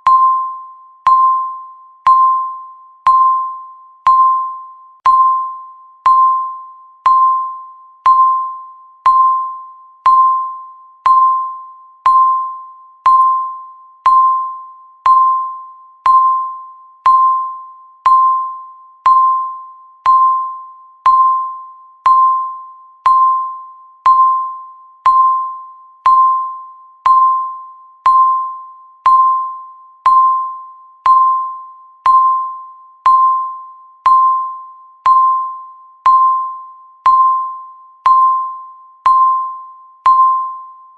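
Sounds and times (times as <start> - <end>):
countdown timer beeps: 0.0 - 40.9.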